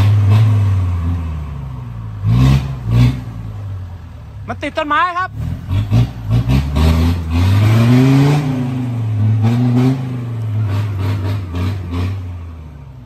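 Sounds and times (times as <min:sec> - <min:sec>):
off-road car engine revving: 0:00.0 - 0:13.0.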